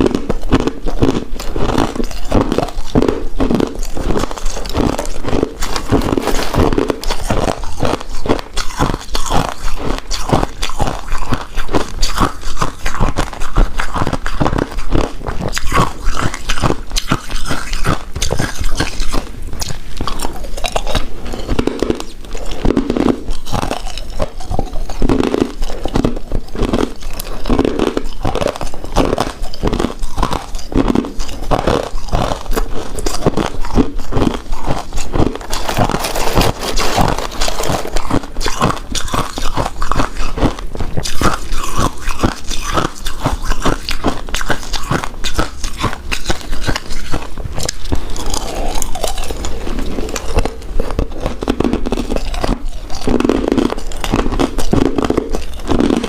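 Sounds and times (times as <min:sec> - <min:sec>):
close chewing mouth clicks: 0:00.0 - 0:56.0.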